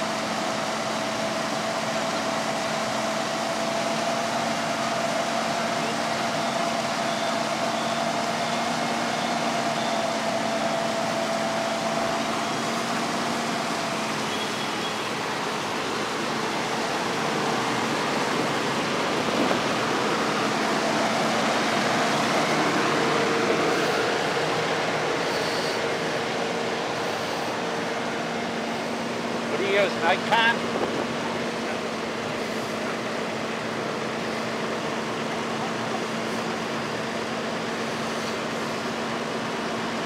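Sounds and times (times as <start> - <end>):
fire truck engine running: 0.0 - 40.0
steady rush of noise: 0.0 - 40.0.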